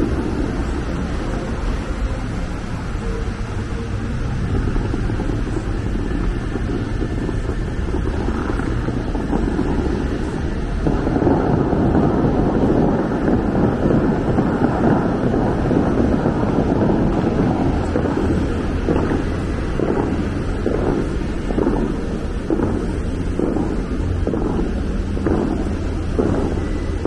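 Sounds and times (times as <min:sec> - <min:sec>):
fountain water spraying: 0:00.0 - 0:27.0
wind rumble on microphone: 0:00.0 - 0:27.0.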